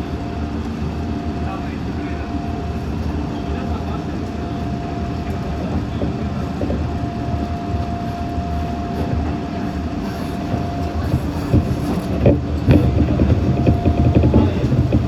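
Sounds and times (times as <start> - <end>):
electric train running: 0.0 - 15.0
thin steady whine: 0.0 - 15.0.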